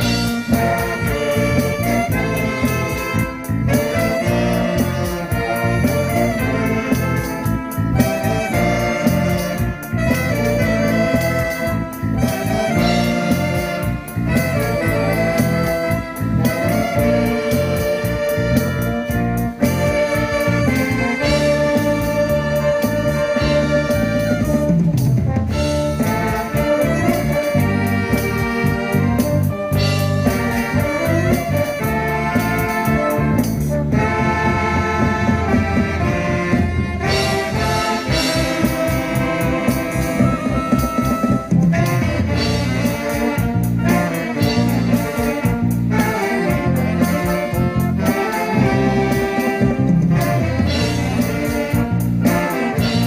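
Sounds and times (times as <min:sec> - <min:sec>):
ensemble playing instrumental music: 0:00.0 - 0:53.0.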